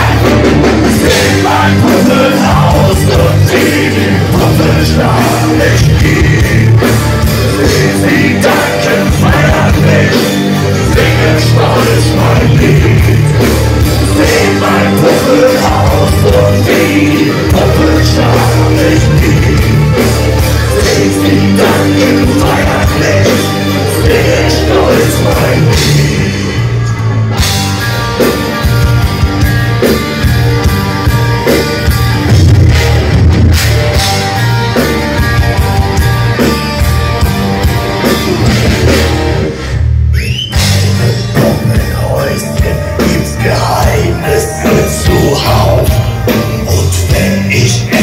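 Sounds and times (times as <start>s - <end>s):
live metal band playing: 0.0s - 48.0s.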